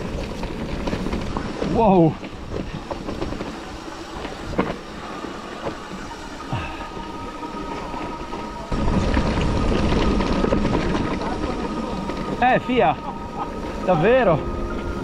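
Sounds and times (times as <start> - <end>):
bike tyres on dirt and rock: 0.0 - 15.0
low rumble: 0.0 - 15.0
steady high whine: 0.0 - 15.0.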